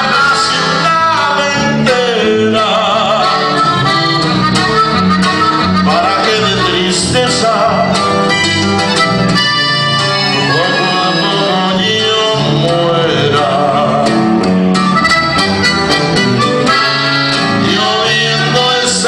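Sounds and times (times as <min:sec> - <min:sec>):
accordion melody: 0:00.0 - 0:19.0
electric bass line: 0:00.0 - 0:19.0
strummed guitar: 0:00.0 - 0:19.0.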